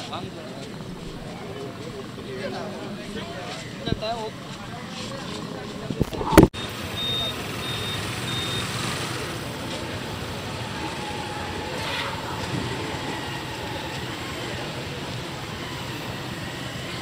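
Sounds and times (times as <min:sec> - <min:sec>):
traffic noise: 0:00.0 - 0:17.0
vehicle engine humming: 0:00.0 - 0:17.0.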